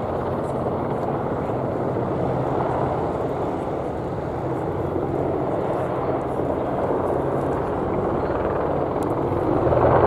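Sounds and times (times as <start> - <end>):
helicopter rotor and engine rush: 0.0 - 10.0.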